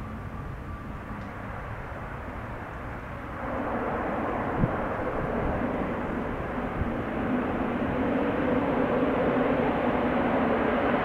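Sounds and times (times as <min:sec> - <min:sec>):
propeller drone: 0:00.0 - 0:11.0.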